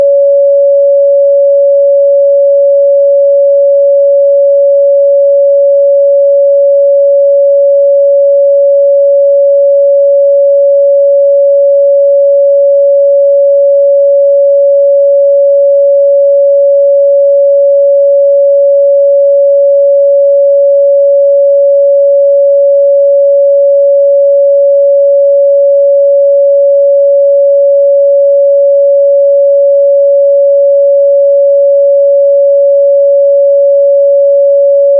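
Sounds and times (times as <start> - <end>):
sine-wave test tone: 0.0 - 34.9.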